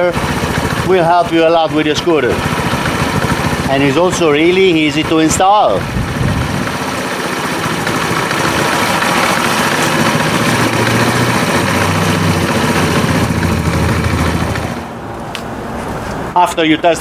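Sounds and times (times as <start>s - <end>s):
scooter engine idling: 0.0s - 15.1s.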